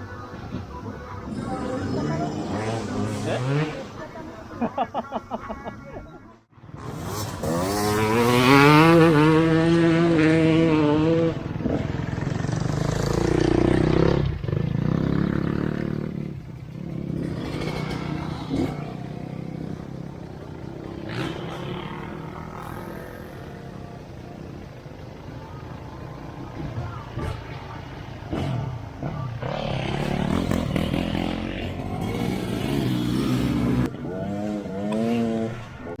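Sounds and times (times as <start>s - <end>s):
motorcycle engine revving: 0.0s - 4.6s, 6.5s - 36.0s.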